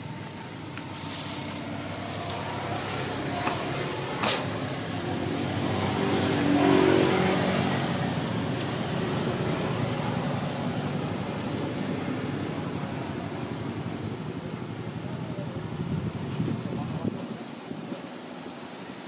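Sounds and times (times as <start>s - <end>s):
steady background noise: 0.0s - 19.0s
vehicle engine passing by: 0.8s - 16.7s.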